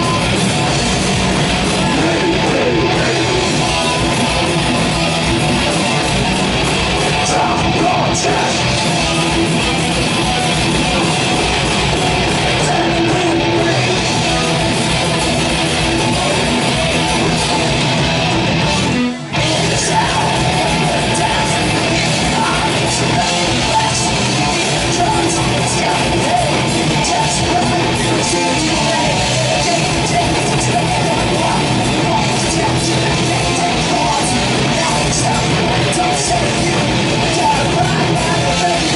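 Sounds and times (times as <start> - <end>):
thrash metal band playing: 0.0 - 38.9.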